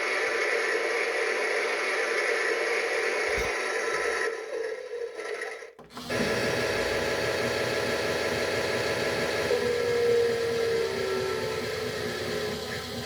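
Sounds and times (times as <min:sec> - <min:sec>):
small motor churning: 0:00.0 - 0:13.0.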